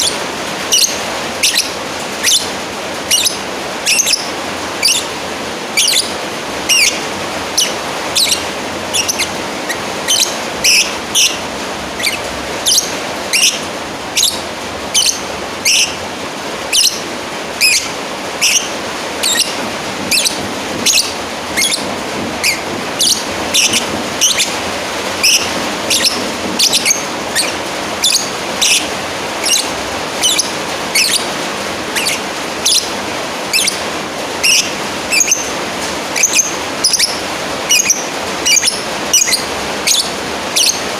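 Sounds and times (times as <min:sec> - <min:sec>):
bird shrill chirps: 0:00.0 - 0:05.2, 0:05.8 - 0:16.0, 0:16.7 - 0:33.8, 0:34.4 - 0:35.6, 0:36.2 - 0:40.9.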